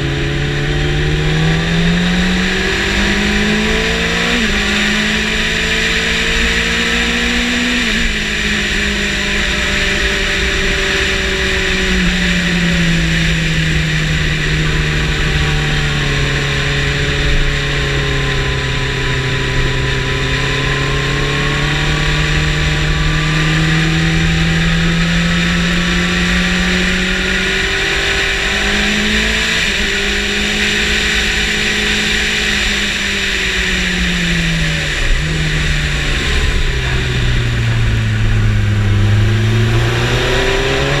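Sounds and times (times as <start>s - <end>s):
motorcycle engine at speed: 0.0s - 41.0s.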